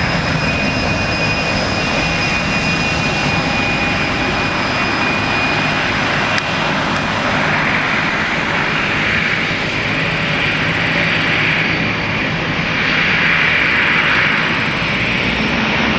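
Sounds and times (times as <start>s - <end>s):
jet engines on takeoff: 0.0s - 15.9s.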